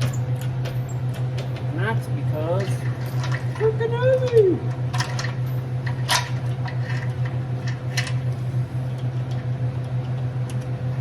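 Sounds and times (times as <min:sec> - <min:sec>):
welder electrical hum: 0:00.0 - 0:11.0.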